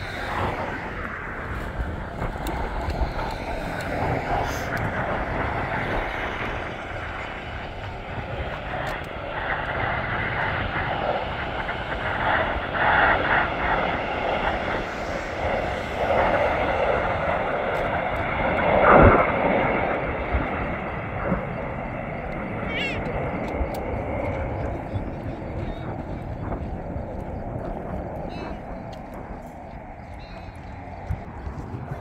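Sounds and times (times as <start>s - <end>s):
airplane engine passing: 0.0s - 32.0s.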